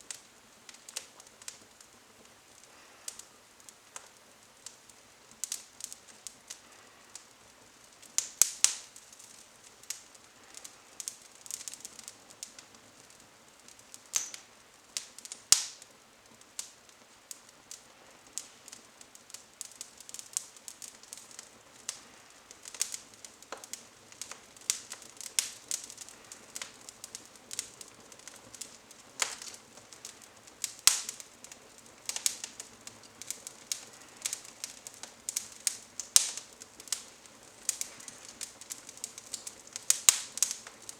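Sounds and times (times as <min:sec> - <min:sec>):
twigs crackling in fire: 0:00.0 - 0:40.9.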